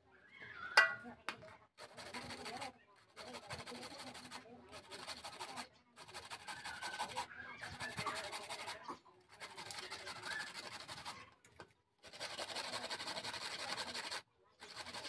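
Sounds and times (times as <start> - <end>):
carrots grated on metal grater: 1.8 - 11.2, 12.1 - 15.0.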